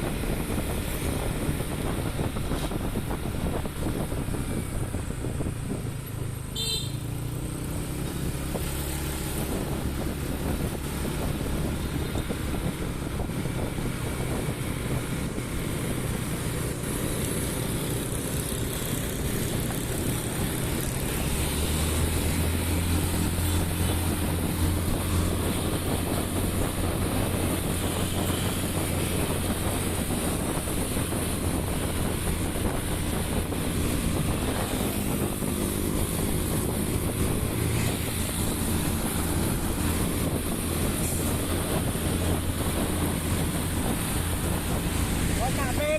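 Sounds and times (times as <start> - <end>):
motorbike engine running: 0.0 - 45.9
wind noise on microphone: 0.0 - 45.9.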